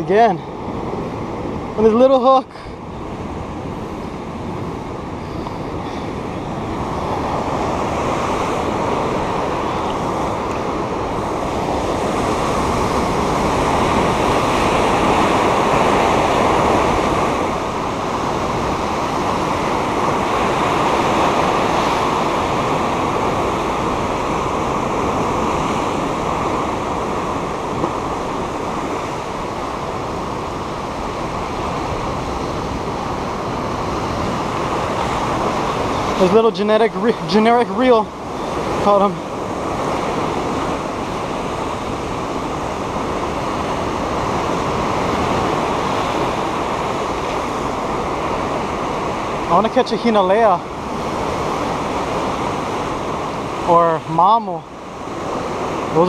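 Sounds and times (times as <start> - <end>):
surf breaking on rocks: 0.0 - 56.0.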